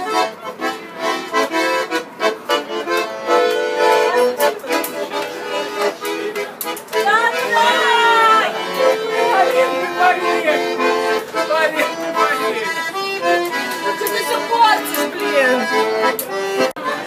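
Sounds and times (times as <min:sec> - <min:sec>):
accordion tune: 0:00.0 - 0:17.0.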